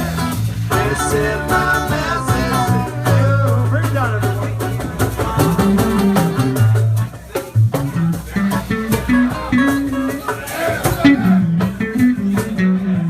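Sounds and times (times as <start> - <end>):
bass and drums: 0.0 - 13.0
electric guitar lead: 0.0 - 13.0.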